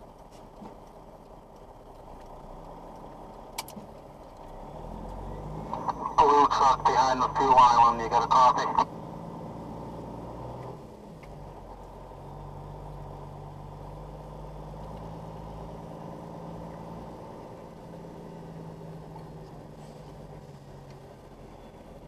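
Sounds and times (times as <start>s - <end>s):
diesel truck engine at low revs: 0.0s - 22.0s.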